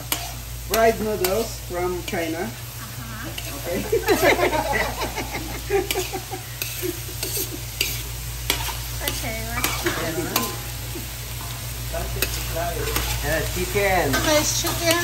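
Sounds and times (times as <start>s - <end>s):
frying sizzle: 0.0s - 15.0s
metal spatula scraping wok: 0.0s - 15.0s.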